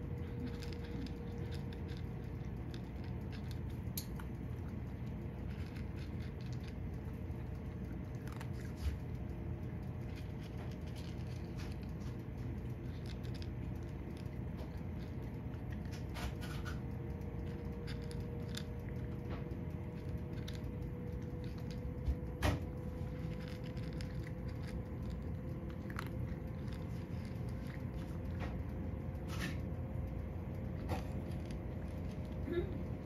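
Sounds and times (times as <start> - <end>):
cat crunching dry kibble: 0.0 - 33.0
low background hum: 0.0 - 33.0.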